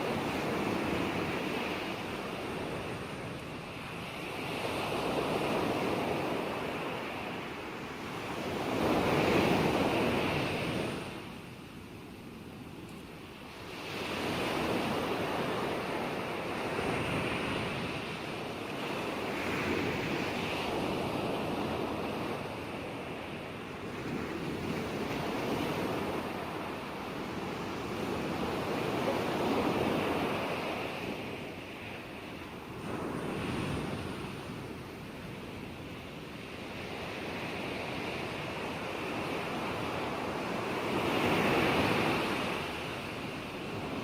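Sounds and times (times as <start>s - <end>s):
ocean waves washing on shore: 0.0s - 44.0s.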